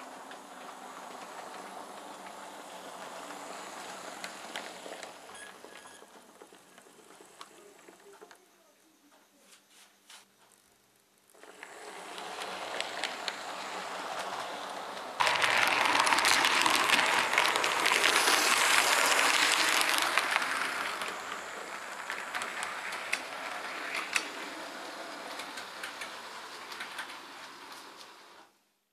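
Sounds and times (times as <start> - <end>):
model train wheels clattering: 0.0 - 8.4, 11.3 - 28.4.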